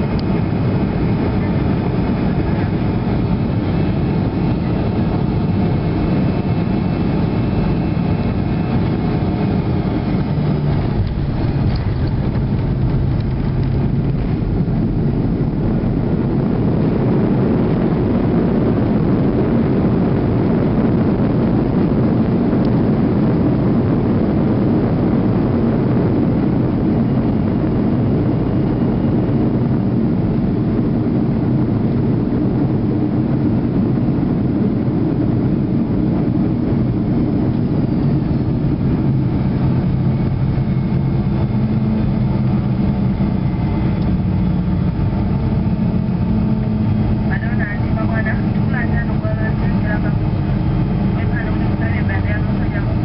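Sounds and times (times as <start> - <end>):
engine and wheel rumble: 0.0 - 53.0
faint engine hum: 0.0 - 53.0.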